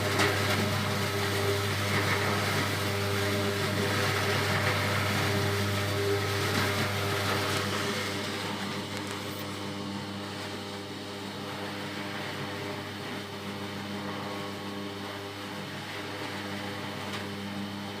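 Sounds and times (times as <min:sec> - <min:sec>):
electric motor humming: 0:00.0 - 0:15.4.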